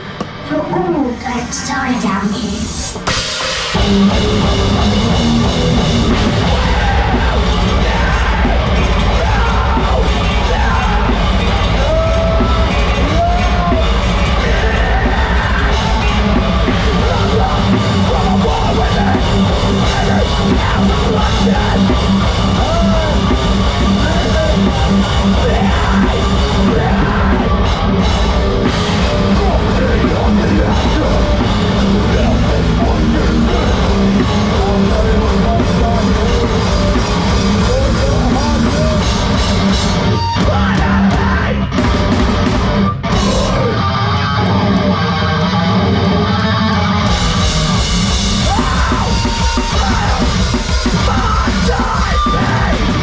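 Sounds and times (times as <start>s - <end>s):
bass guitar: 0.0s - 53.0s
distorted guitars: 0.0s - 53.0s
drum kit: 0.0s - 53.0s
shouted vocals: 3.9s - 41.8s, 43.1s - 53.0s.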